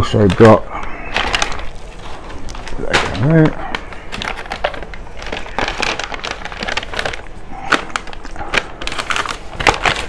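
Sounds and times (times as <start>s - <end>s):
paper bag rustling: 0.0s - 10.0s.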